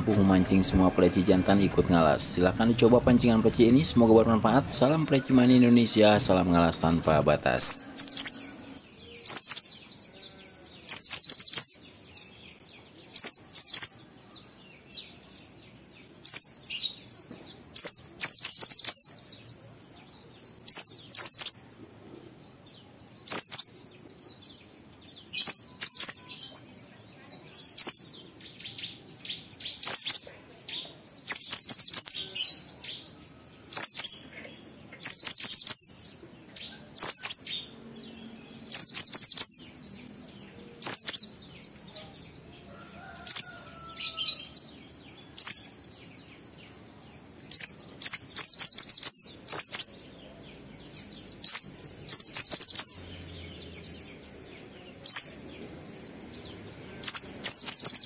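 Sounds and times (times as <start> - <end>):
bird singing high chirps: 0.0 - 21.8, 22.4 - 58.0.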